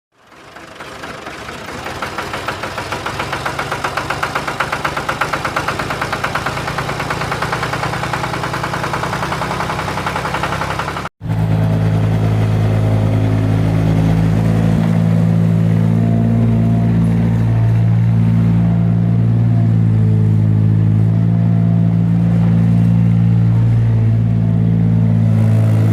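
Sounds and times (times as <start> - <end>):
tractor engine puttering: 0.1 - 25.9.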